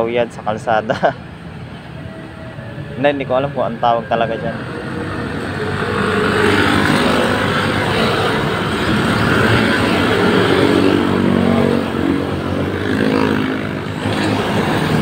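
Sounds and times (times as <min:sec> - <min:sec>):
motorcycles and cars passing: 0:00.0 - 0:15.0.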